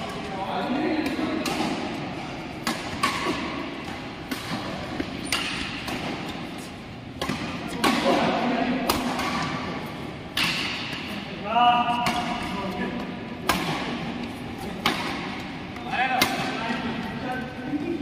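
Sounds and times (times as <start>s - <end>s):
racket hitting shuttlecock: 1.0s - 11.2s, 11.8s - 16.9s.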